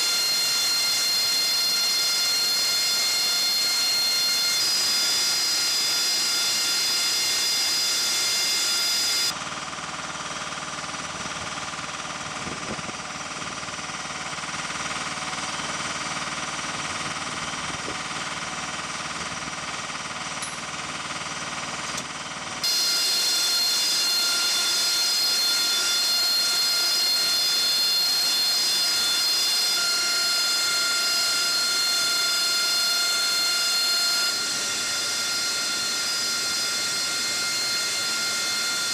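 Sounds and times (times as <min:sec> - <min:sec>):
jet turbine whine: 0:00.0 - 0:38.9.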